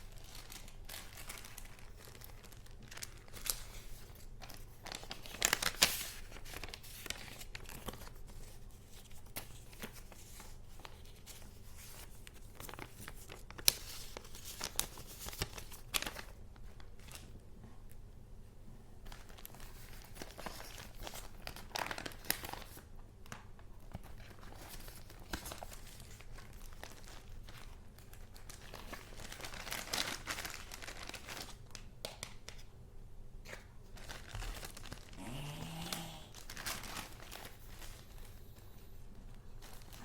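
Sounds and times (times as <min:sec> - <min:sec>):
paper rustling and crinkling: 0:00.0 - 0:17.7, 0:19.0 - 0:32.7, 0:33.4 - 0:40.0.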